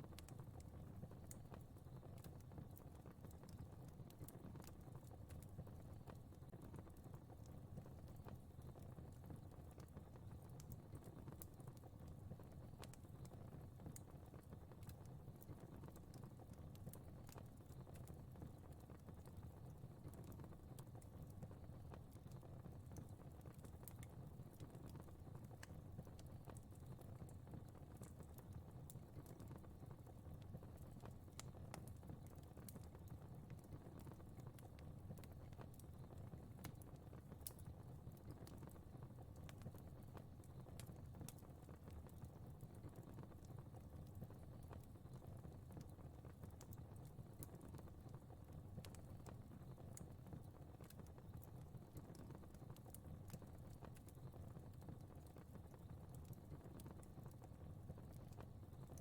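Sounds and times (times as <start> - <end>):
fire crackling and popping: 0.0 - 59.0
low rumble of flames: 0.1 - 59.0.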